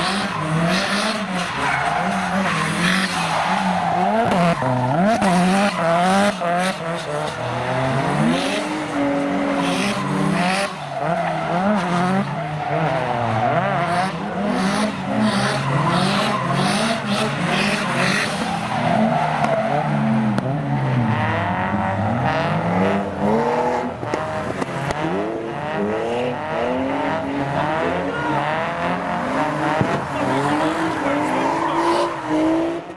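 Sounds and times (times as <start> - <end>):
turbocharged car engine revving: 0.0 - 32.9.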